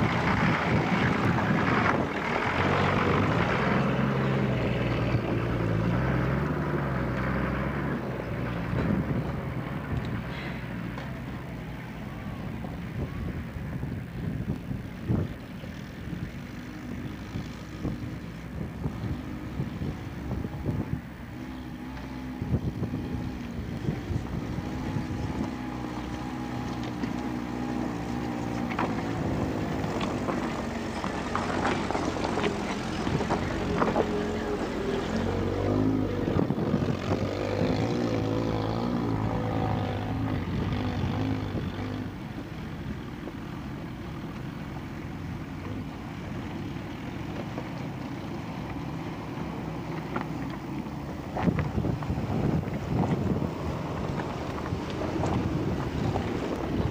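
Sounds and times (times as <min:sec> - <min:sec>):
off-road vehicle engine running: 0:00.0 - 0:56.9.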